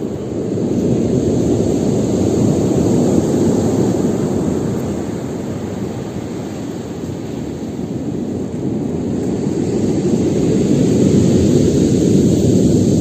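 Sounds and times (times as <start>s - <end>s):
waves breaking: 0.0s - 12.8s.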